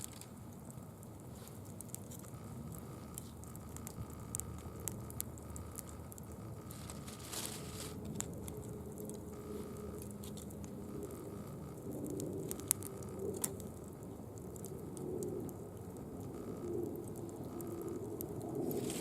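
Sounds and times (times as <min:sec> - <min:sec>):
leaf fire crackling and popping: 0:00.0 - 0:19.0.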